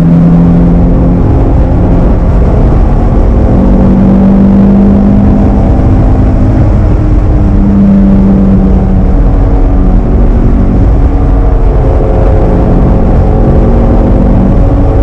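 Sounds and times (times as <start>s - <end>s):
car engine cruising: 0.0s - 15.0s
road rumble: 0.0s - 15.0s
wind: 0.0s - 15.0s.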